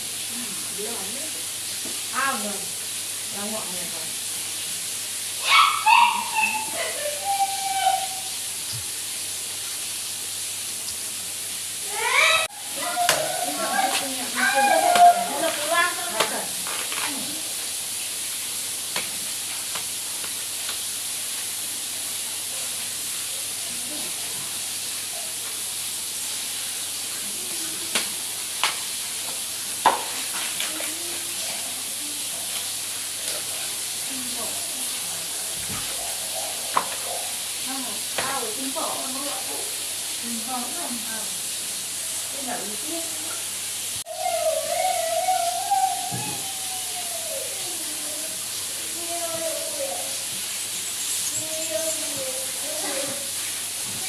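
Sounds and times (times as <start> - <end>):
food frying in a pan: 0.0 - 54.0.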